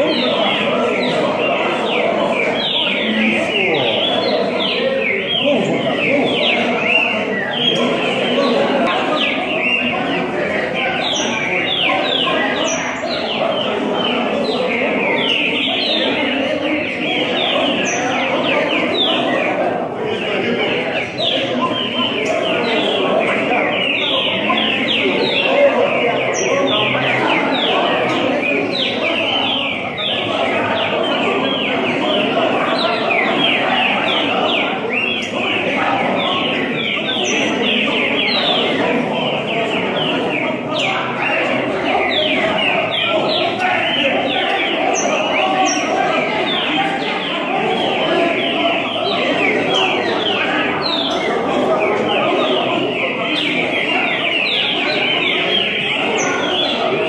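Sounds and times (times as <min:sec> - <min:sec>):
background hubbub: 0:00.0 - 0:57.0
chorus of birds whistling: 0:00.0 - 0:57.0
murmur of voices: 0:00.0 - 0:57.0.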